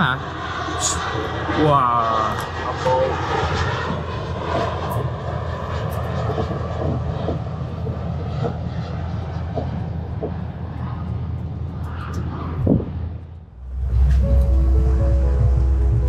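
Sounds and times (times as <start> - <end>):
airplane engines droning: 0.0 - 16.0.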